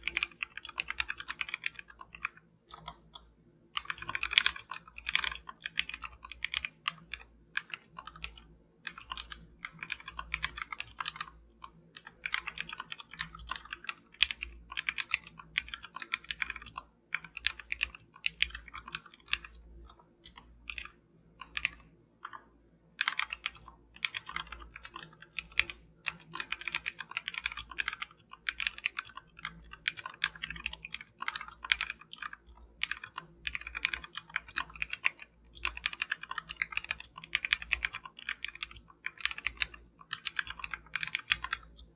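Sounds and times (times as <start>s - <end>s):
typing on mechanical keyboard: 0.0s - 22.4s, 23.0s - 41.9s.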